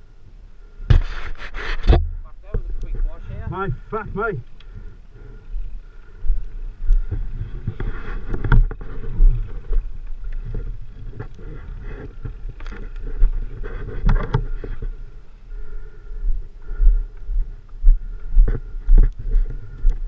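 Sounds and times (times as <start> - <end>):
low microphone rumble: 1.8 - 20.0.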